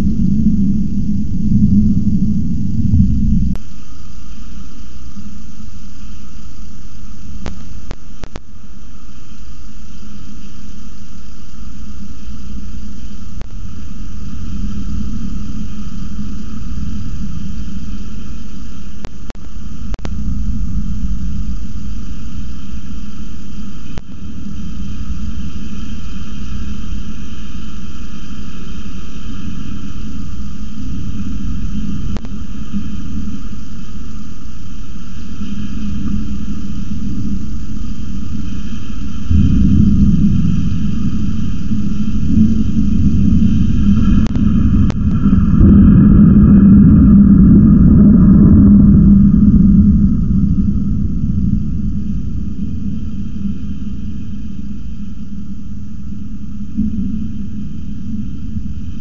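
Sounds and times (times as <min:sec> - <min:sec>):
hiss: 0:00.0 - 0:59.0
wind and rain rumble: 0:00.0 - 0:59.0.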